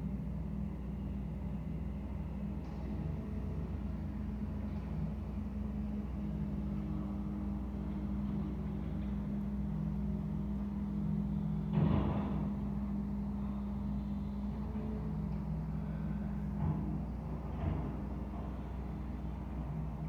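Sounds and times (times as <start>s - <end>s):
low mechanical engine hum: 0.0s - 20.0s.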